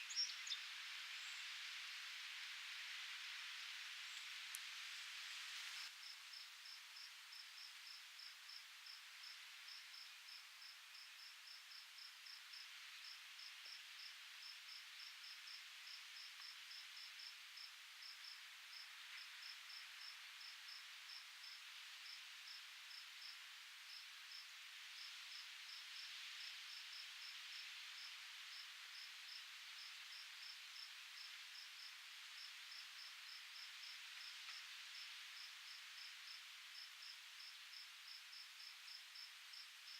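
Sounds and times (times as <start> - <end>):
cricket chirping: 6.0 - 39.9.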